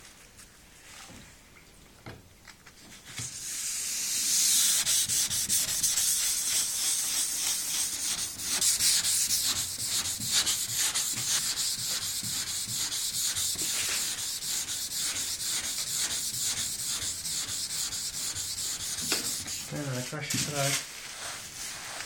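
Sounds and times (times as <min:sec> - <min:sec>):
hand sanding rasping strokes: 0:03.2 - 0:22.0.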